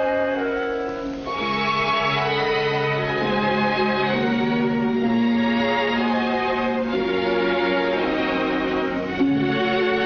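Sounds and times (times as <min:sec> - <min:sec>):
orchestral string chords: 0:00.0 - 0:10.0.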